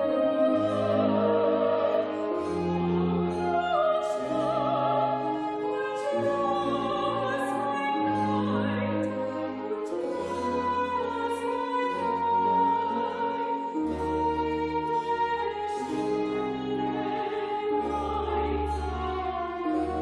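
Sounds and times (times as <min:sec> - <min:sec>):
cello: 0:00.0 - 0:20.0
lute: 0:00.0 - 0:20.0
operatic singing voice: 0:00.0 - 0:20.0.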